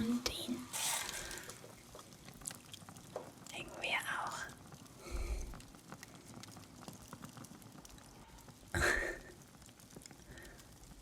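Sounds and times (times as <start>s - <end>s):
fireplace fire crackling: 0.0s - 11.0s.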